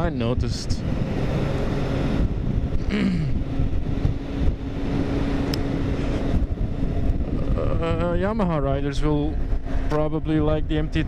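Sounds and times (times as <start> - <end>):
wind rush on microphone: 0.0 - 11.0
motorcycle engine running: 0.8 - 11.0.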